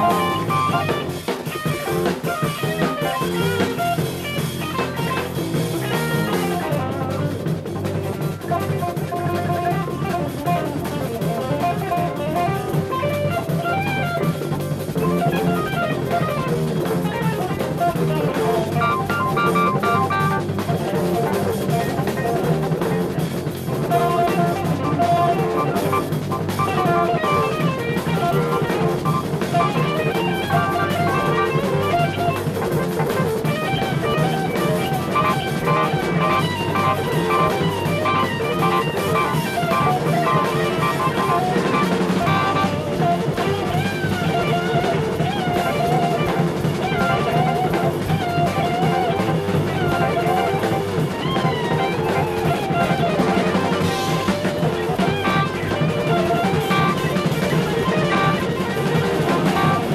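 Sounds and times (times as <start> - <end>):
drum kit: 0.0 - 59.9
electric bass: 0.0 - 59.9
electric guitar: 0.0 - 59.9
keyboards: 0.0 - 59.9.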